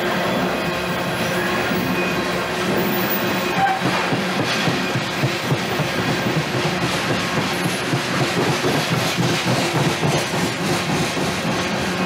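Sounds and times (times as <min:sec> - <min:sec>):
freight train cars clattering: 0:01.5 - 0:12.0.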